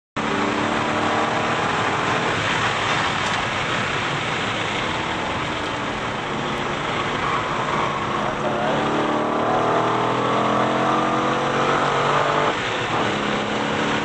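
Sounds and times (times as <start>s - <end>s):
car engine at speed: 0.2s - 14.0s
wind and road noise: 0.2s - 14.0s.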